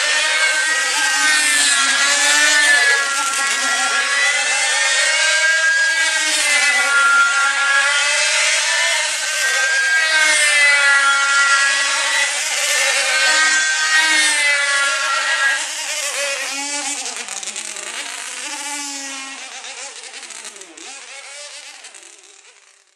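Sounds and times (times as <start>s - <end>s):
model aircraft engines screaming: 0.0s - 22.9s.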